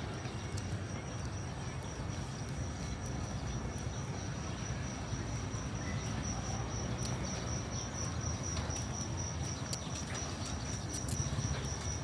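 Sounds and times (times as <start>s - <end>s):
city noise: 0.0s - 12.0s
wind: 0.0s - 12.0s
cricket trill: 0.4s - 12.0s.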